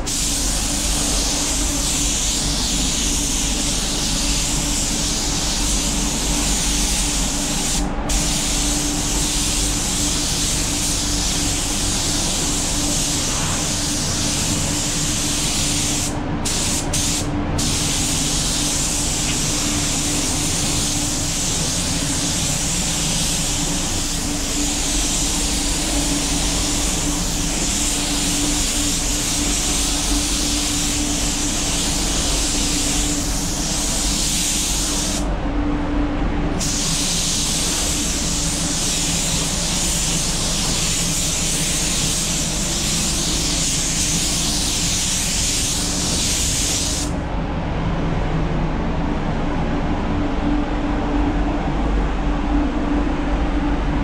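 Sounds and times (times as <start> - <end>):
spray gun air hiss: 0.0 - 35.3, 36.6 - 47.2
ventilation hum: 0.0 - 54.0.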